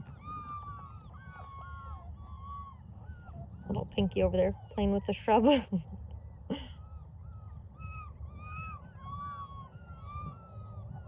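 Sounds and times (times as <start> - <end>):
puppies whining and squeaking: 0.0 - 11.0.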